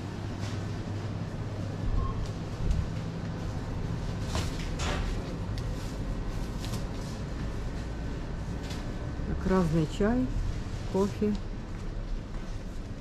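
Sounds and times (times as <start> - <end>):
low hum of refrigeration: 0.0 - 13.0.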